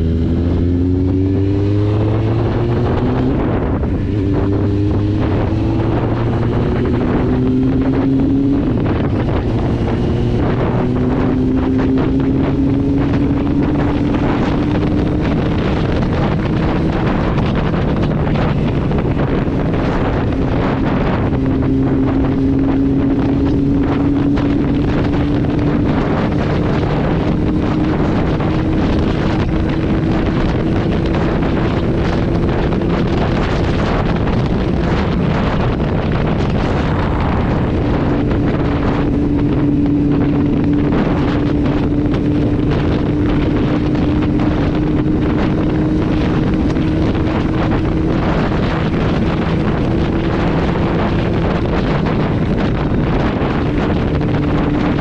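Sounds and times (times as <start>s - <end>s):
motorcycle engine droning: 0.0s - 55.0s
wind noise on microphone: 0.0s - 55.0s.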